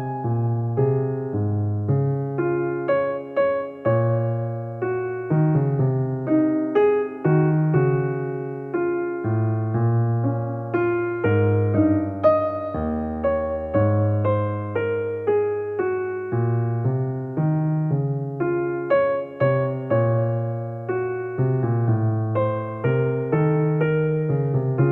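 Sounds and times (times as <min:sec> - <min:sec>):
soft piano music: 0:00.0 - 0:24.9.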